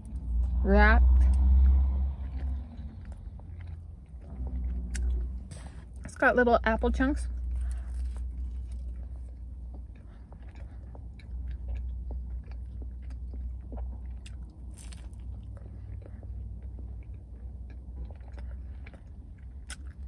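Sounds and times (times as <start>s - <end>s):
biting and chewing croissant: 0.0s - 6.2s, 6.9s - 20.0s
steady low hum: 0.0s - 20.0s.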